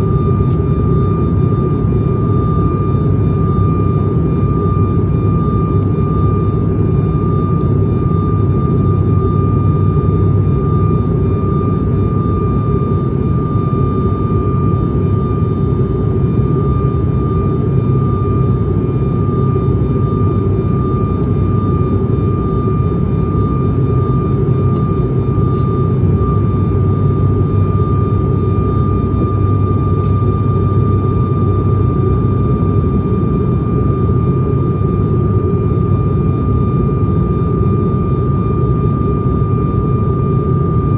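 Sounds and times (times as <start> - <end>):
turboprop engine drone: 0.0 - 40.9.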